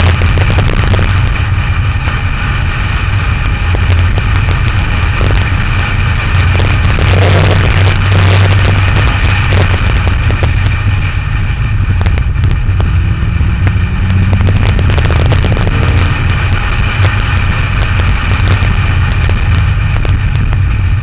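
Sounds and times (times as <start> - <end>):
car engine droning: 0.0 - 21.0
road and wind noise: 0.0 - 21.0.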